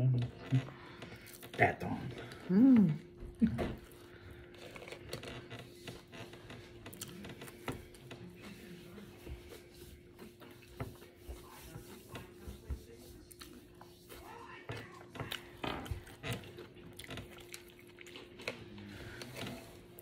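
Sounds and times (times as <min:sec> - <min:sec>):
chewing fries: 0:00.3 - 0:11.2, 0:13.2 - 0:20.0.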